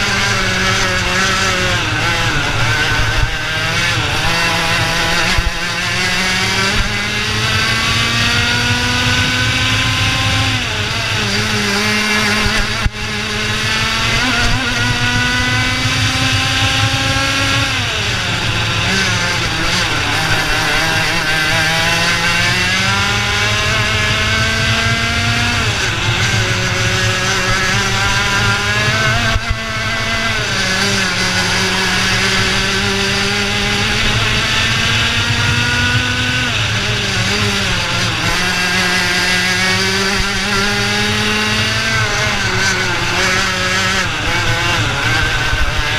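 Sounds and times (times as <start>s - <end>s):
kart engine revving: 0.0s - 45.9s.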